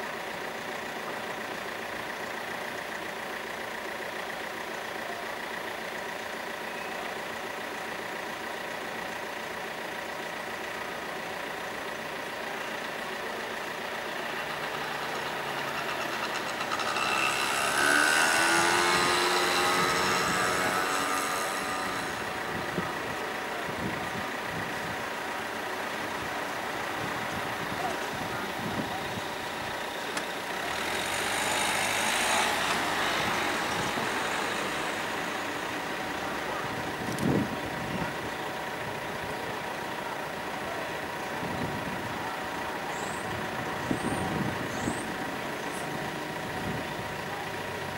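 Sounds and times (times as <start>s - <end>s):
vehicles passing: 0.3s - 47.9s.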